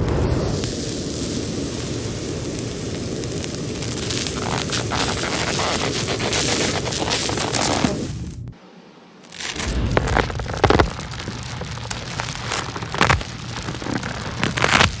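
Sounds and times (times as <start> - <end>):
dense crackling and rustling: 0.0 - 15.0.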